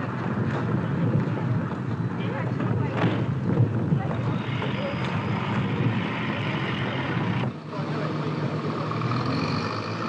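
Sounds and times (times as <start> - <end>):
rumble of trains moving: 0.0 - 10.0.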